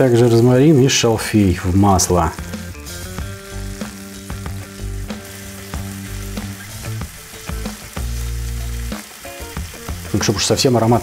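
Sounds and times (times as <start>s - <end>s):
background music with low chords: 0.0s - 11.0s
steaks sizzling in oil: 0.2s - 11.0s.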